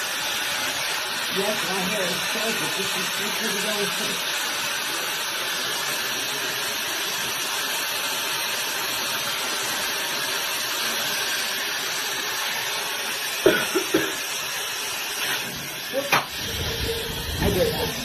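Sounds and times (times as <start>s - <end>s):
hair dryer blowing air: 0.0s - 18.0s.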